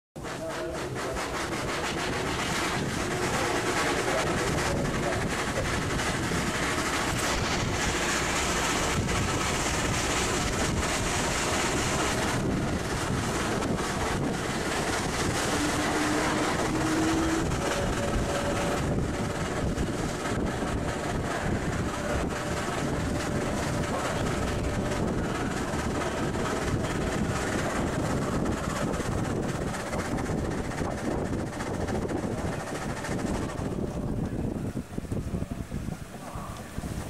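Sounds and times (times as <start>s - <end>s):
steam car mechanical rumble: 0.2s - 37.0s
wind buffeting microphone: 0.9s - 37.0s.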